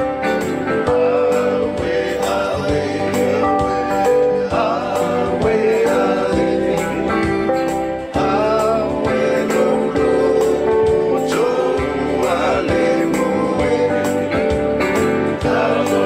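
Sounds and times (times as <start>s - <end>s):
live singing with instruments: 0.0s - 16.0s.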